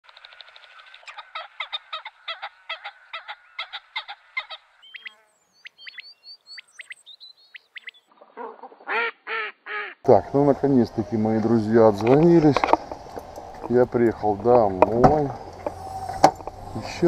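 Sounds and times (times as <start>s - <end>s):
geese honking: 0.2s - 5.2s, 7.7s - 17.0s.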